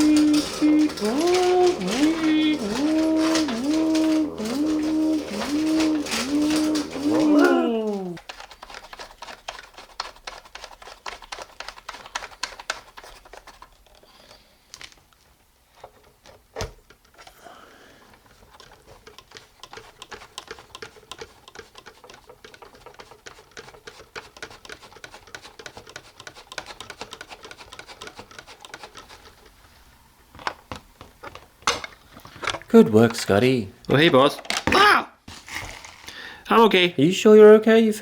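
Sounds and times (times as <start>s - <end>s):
plastic toy vehicles clicking: 0.0s - 29.6s, 30.3s - 34.9s.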